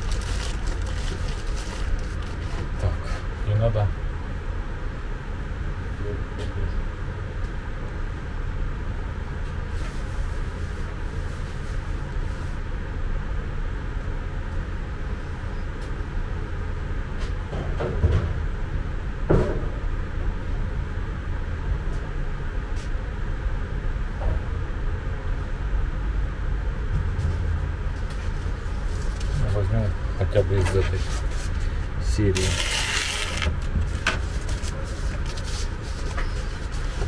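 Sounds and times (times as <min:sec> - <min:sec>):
low room rumble: 0:00.0 - 0:37.0.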